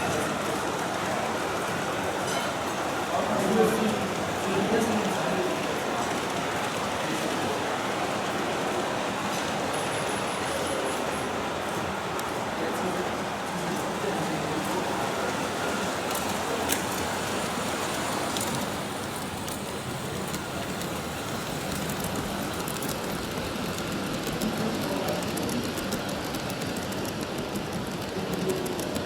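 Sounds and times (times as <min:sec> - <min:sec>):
model train rolling on track: 0:00.0 - 0:29.0.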